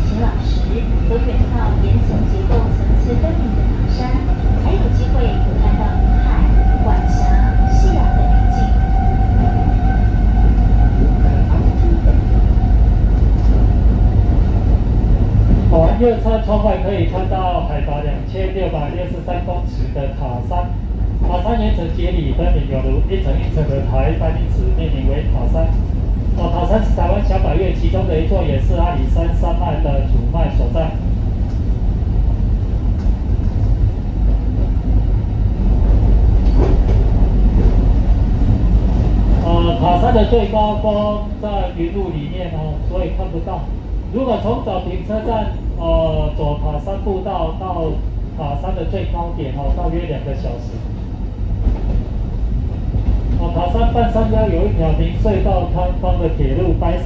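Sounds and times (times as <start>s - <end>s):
train whine: 0.0s - 56.7s
train low rumble: 0.0s - 57.0s.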